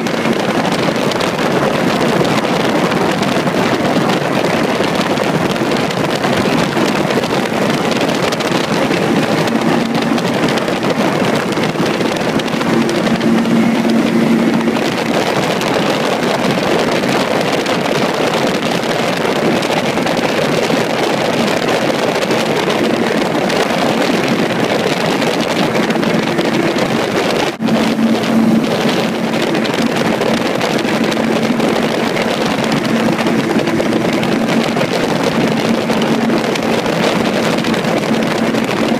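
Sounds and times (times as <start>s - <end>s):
gyrocopter engine and propeller drone: 0.0s - 38.9s
wind rushing over microphone: 0.0s - 38.9s.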